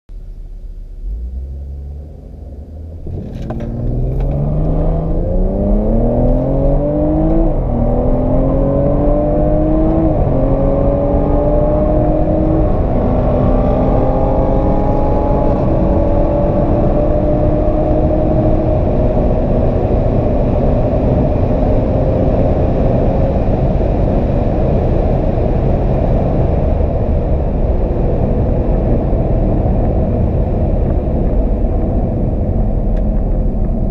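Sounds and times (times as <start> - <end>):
wind and road noise: 0.2 - 33.9
car engine accelerating through gears: 0.9 - 33.9.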